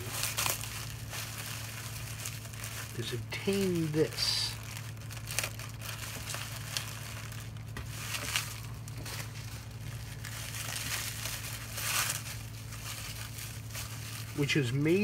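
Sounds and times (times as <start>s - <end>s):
bubble wrap crinkling: 0.0s - 15.0s
steady low hum: 0.0s - 15.0s.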